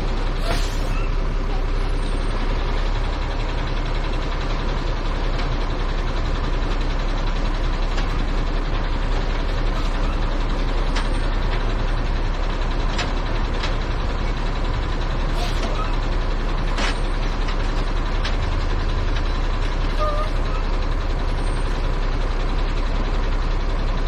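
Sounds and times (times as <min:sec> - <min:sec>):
truck diesel engine idling: 0:00.0 - 0:24.0.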